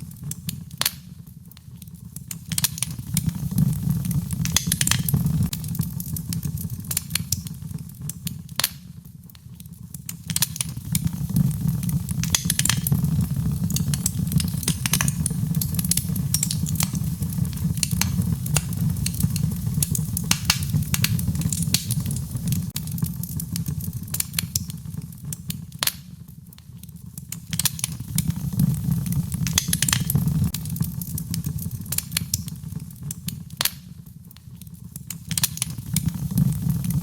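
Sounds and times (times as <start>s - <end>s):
low rumble of flames: 0.0s - 37.0s
sharp pops of fire: 0.0s - 37.0s
wood fire crackling: 0.0s - 37.0s.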